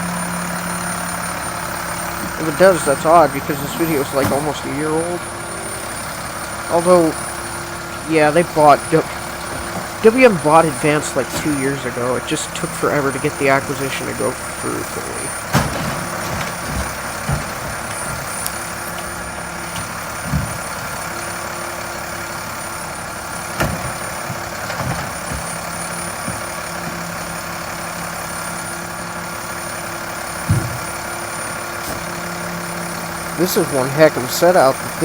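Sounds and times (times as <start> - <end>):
truck low hum: 0.0 - 35.0.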